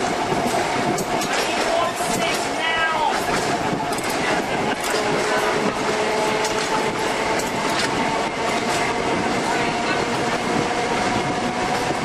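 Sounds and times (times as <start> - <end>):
tram running gear whine: 0.0 - 12.0
tram wheels clicking: 0.0 - 12.0.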